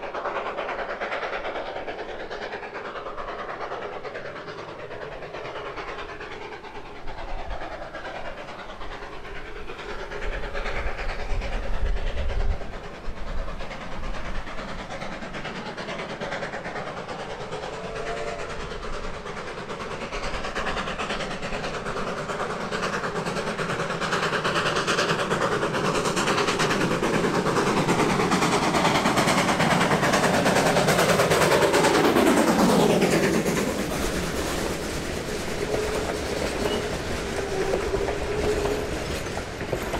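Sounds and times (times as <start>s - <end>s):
steam locomotive passing: 0.0s - 39.9s.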